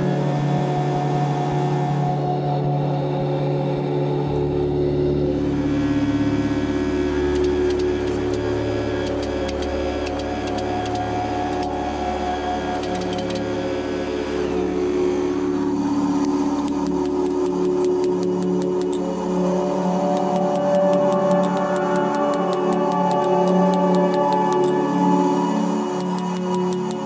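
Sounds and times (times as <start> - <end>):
background music: 0.0 - 27.0
hydraulic press humming: 4.1 - 27.0.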